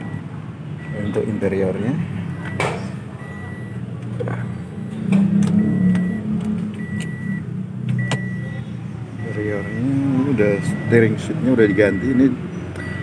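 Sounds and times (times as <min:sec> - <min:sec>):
car warning chime beeping: 0:00.0 - 0:13.0.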